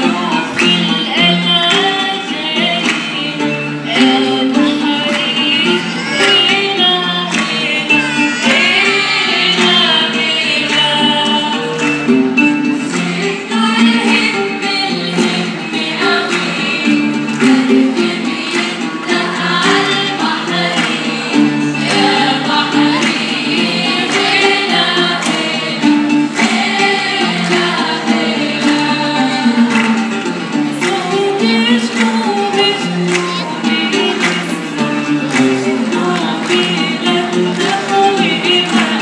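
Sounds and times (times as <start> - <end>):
women singing into microphones: 0.0 - 12.0, 12.8 - 39.0
musical accompaniment: 0.0 - 39.0.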